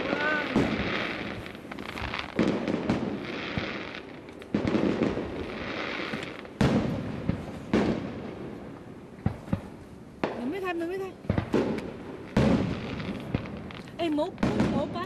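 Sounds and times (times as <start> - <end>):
small firework pops: 0.0 - 8.0, 9.2 - 15.0
firework booms: 0.0 - 15.0.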